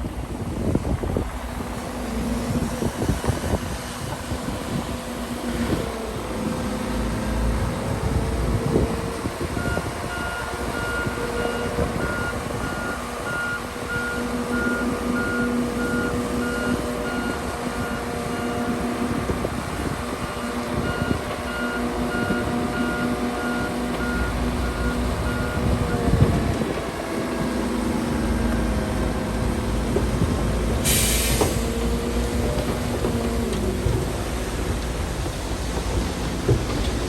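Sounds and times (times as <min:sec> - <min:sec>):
heavy diesel machinery running: 0:00.0 - 0:37.0.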